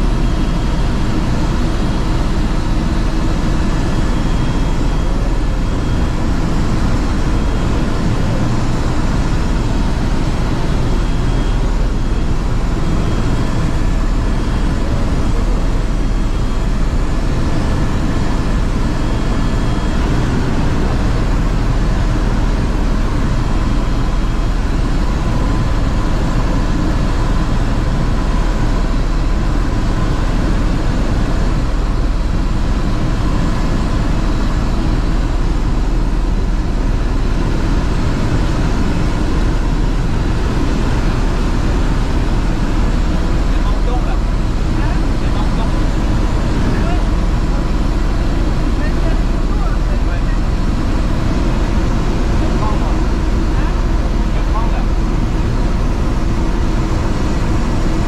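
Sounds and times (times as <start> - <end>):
faint steady whines: 0.0 - 58.0
helicopter rotor and engine drone: 0.0 - 58.0.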